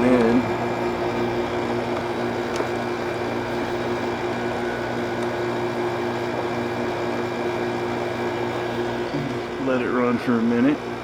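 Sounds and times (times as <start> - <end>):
air conditioner compressor humming: 0.0 - 11.0
fan rushing: 0.0 - 11.0.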